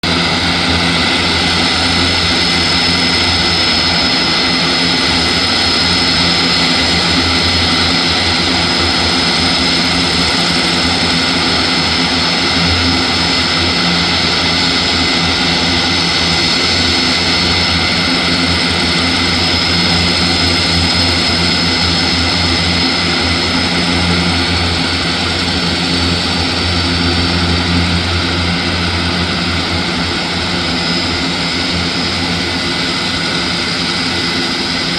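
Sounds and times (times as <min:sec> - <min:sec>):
constant high whine: 0:00.0 - 0:34.9
turboprop engines roaring: 0:00.0 - 0:34.9.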